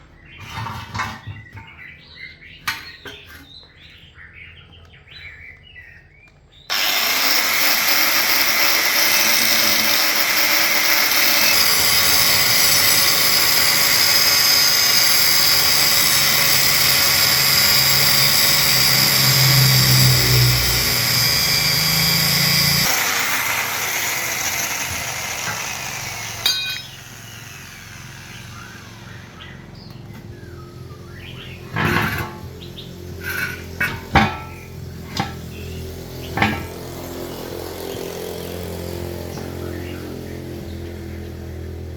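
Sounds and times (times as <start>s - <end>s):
power tool running: 6.7s - 41.9s.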